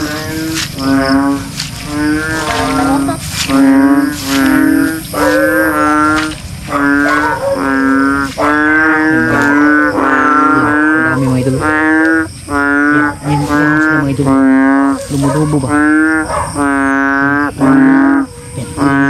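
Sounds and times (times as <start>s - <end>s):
bullfrogs calling: 0.0s - 19.0s.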